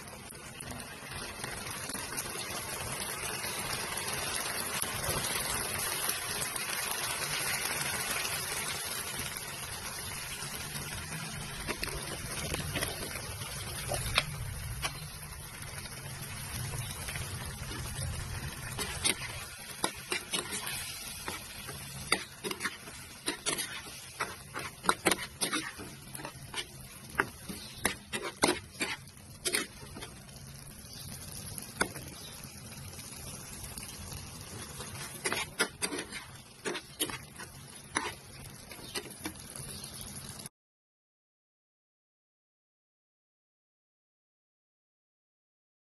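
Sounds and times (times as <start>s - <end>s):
food sizzling in a pan: 0.0s - 40.5s.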